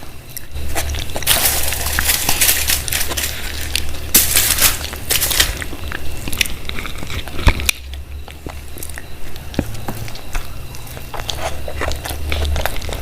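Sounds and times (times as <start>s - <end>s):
person biting and chewing food: 0.0s - 13.0s.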